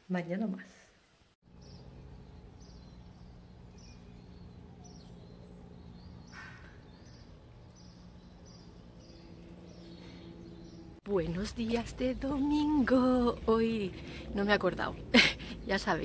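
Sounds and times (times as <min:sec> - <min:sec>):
small birds chirping: 0:01.4 - 0:16.0
steady low hum: 0:01.5 - 0:16.0.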